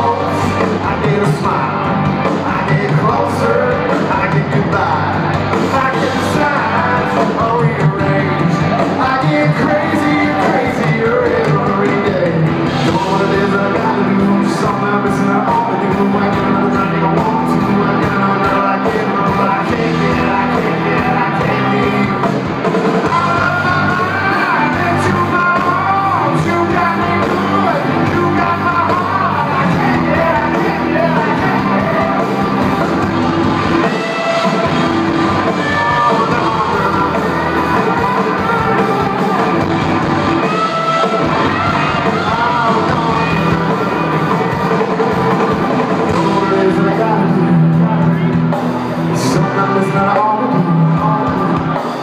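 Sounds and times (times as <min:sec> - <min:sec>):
lead vocal singing: 0:00.0 - 0:52.0
live country band: 0:00.0 - 0:52.0.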